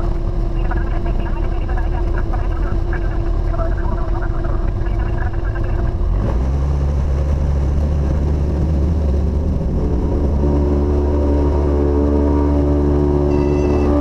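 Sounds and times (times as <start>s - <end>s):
light aircraft engine and propeller: 0.0s - 14.0s.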